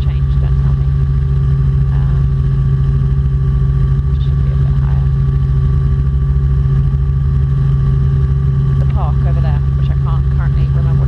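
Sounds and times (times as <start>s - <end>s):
helicopter engine and rotors droning: 0.0s - 11.0s
rotor blades pulsing: 0.0s - 11.0s
steady whine: 0.0s - 11.0s.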